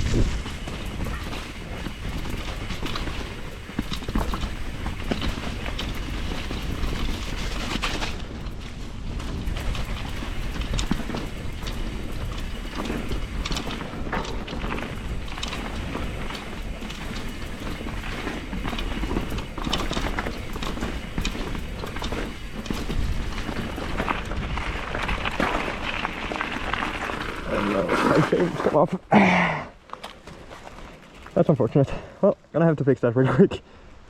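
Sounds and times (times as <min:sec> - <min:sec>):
bike rattling over bumps: 0:00.0 - 0:29.1, 0:29.7 - 0:32.2
bike tyres on dirt: 0:00.0 - 0:34.0.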